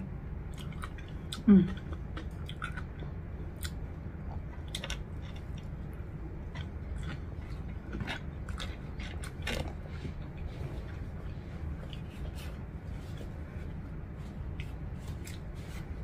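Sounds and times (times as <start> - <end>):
person chewing food: 0.4 - 16.0.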